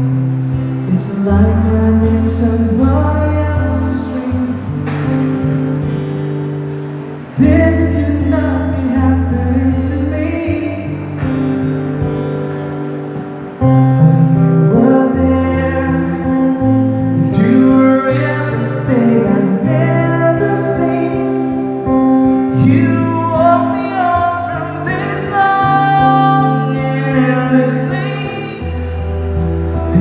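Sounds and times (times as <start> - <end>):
guitar: 0.0 - 30.0
held bass notes: 0.0 - 30.0.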